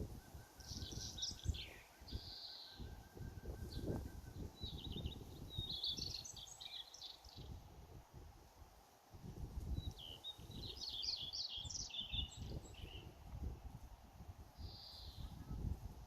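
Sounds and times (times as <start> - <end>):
songbirds chirping and warbling: 0.0 - 7.7, 9.5 - 13.6, 14.6 - 16.0
wind rumble on microphone: 0.0 - 16.0.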